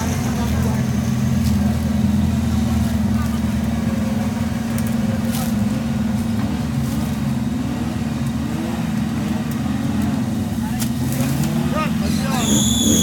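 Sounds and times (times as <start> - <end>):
vehicle engine running steadily: 0.0 - 13.0.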